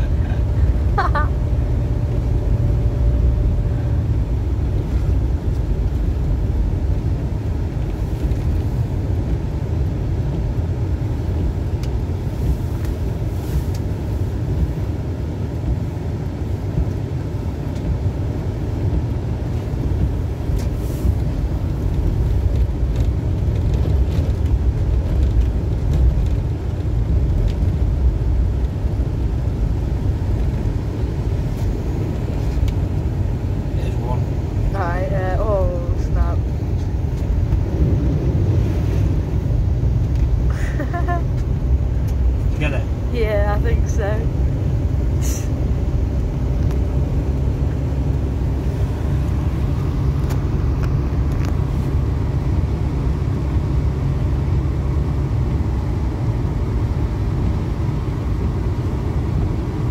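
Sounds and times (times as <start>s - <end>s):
engine and tyre rumble in car cabin: 0.0s - 59.9s.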